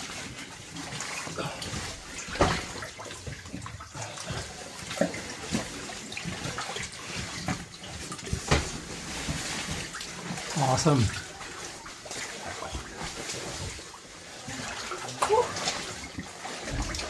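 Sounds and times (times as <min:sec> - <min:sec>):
people wading through water: 0:00.2 - 0:17.0.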